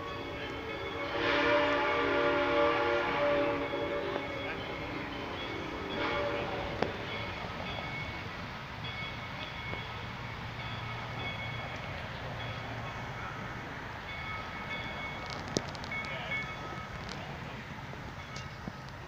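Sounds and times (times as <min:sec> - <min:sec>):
steam locomotive rumble and hiss: 0:00.0 - 0:19.0.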